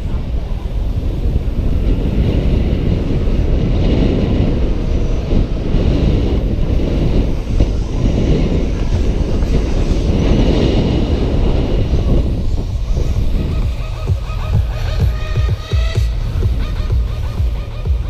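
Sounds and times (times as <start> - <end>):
bike tyres rolling on track: 0.0 - 18.0
wind buffeting camera: 0.0 - 18.0.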